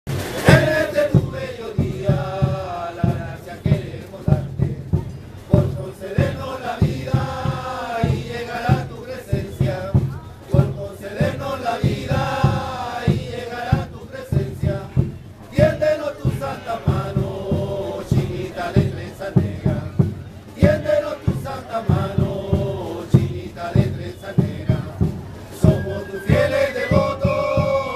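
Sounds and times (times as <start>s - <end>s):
steady drumbeats: 0.1s - 27.9s
group chant in unison: 0.3s - 27.9s.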